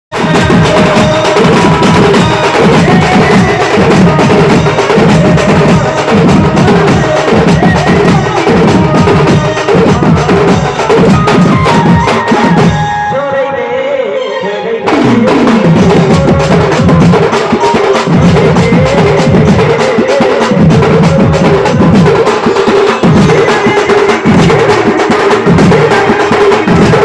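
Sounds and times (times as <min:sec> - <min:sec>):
steady low drum rhythm: 0:00.1 - 0:12.9, 0:14.9 - 0:27.0
devotional music: 0:00.2 - 0:27.0.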